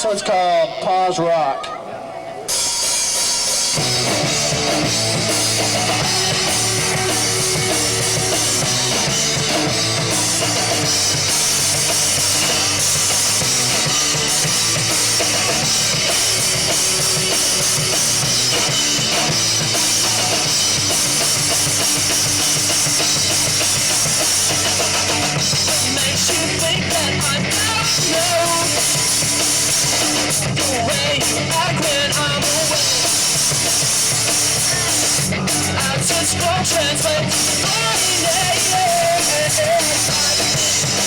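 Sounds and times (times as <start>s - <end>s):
rock band playing: 2.4s - 41.0s
drum kit: 2.5s - 41.0s.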